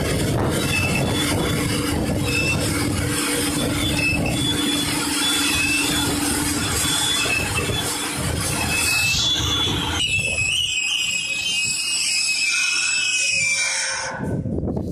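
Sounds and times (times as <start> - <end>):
truck engine humming: 0.0 - 12.7
high-pitched squeaks: 0.4 - 14.4.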